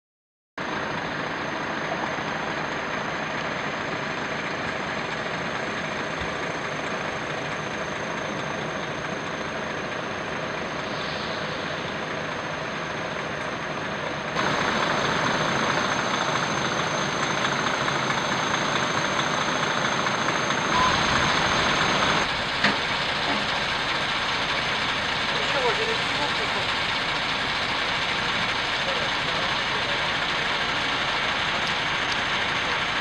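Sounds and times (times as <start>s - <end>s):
diesel lorry engines idling: 0.6s - 33.0s.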